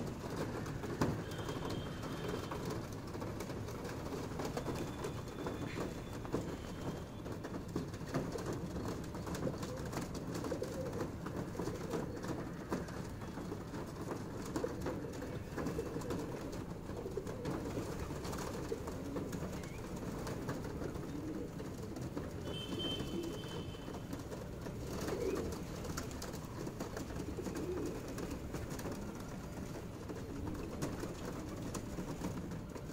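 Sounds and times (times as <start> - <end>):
pigeons cooing: 0.0 - 32.9.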